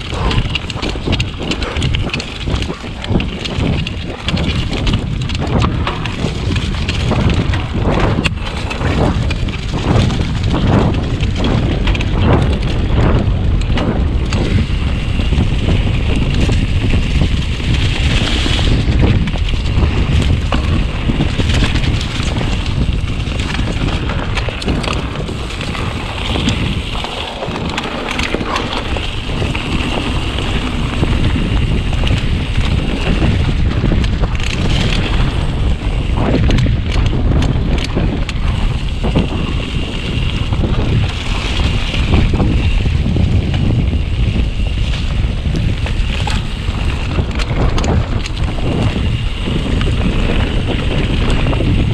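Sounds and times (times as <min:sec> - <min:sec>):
bike clicks and rattles: 0:00.0 - 0:51.9
tyres rumbling over dirt: 0:00.0 - 0:51.9
wind buffeting microphone: 0:00.0 - 0:51.9.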